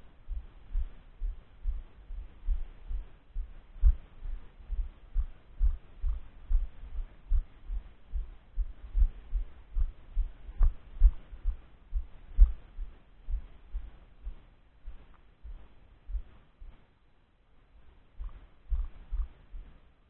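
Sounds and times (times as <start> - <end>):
footsteps dull thumps: 0.3 - 16.8, 18.2 - 19.7.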